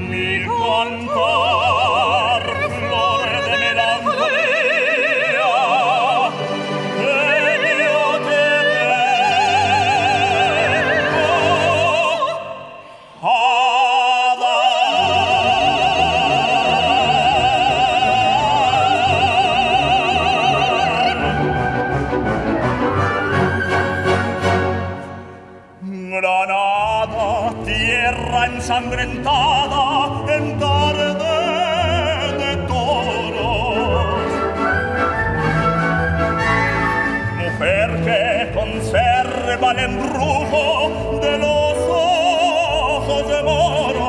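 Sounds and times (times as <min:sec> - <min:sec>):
operatic duet singing: 0:00.0 - 0:23.9, 0:25.8 - 0:44.0
symphony orchestra: 0:00.0 - 0:44.0.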